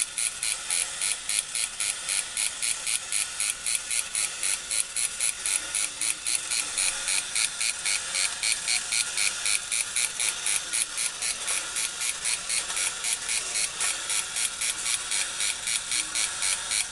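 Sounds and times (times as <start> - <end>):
toy motor and gears clattering: 0.0 - 16.9.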